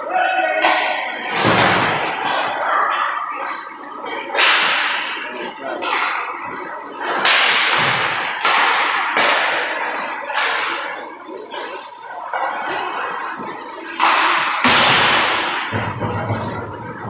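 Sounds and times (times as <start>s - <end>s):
hockey sticks and pucks cracking: 0.6s - 16.5s.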